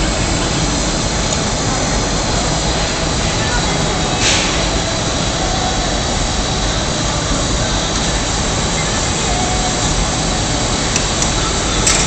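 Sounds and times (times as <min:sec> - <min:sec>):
gas burner flame rushing: 0:00.0 - 0:12.0.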